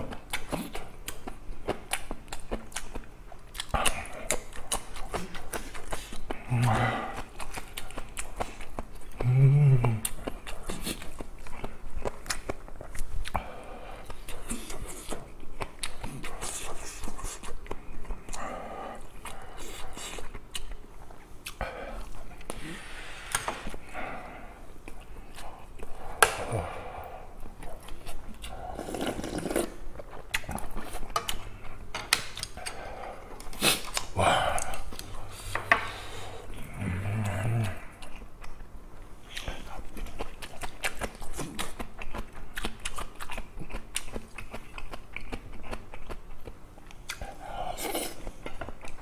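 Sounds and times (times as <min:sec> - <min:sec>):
chewing and mouth noises: 0:00.0 - 0:24.1, 0:24.8 - 0:49.0.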